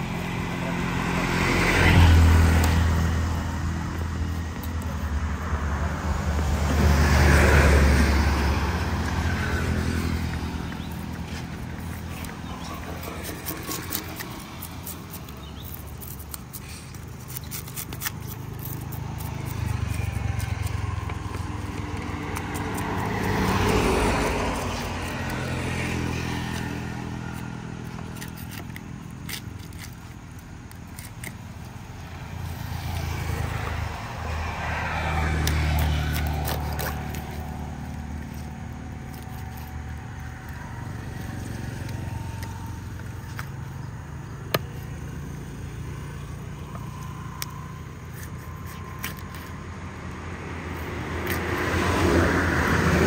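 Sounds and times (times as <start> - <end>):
road vehicles passing: 0.0 - 53.0
cleaver scraping and chopping fish: 8.7 - 45.3, 46.6 - 53.0.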